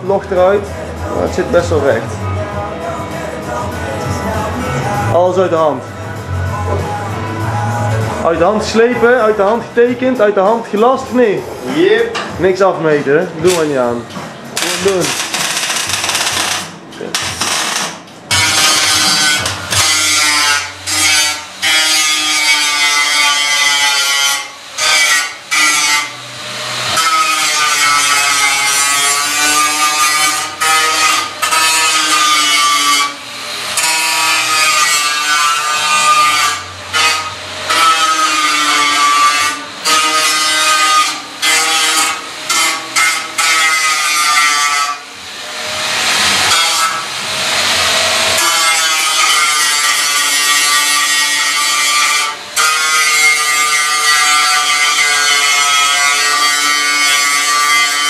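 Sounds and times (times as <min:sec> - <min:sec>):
angle grinder grinding metal: 0:11.5 - 0:58.0.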